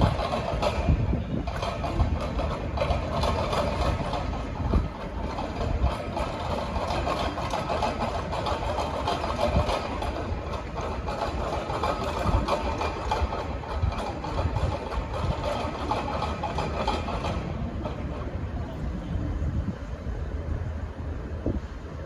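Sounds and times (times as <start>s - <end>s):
train diesel engines running: 0.0s - 22.0s.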